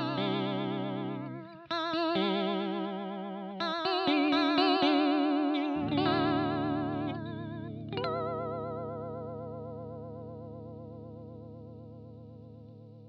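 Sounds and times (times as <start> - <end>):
electric guitar with chorus: 0.0 - 13.0.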